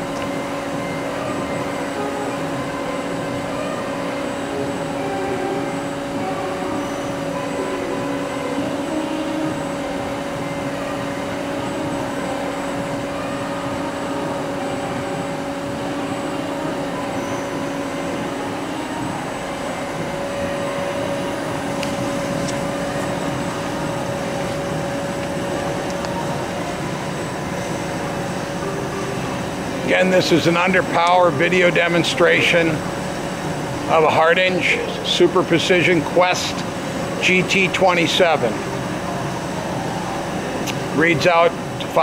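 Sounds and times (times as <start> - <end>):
lathe running: 0.0 - 42.0.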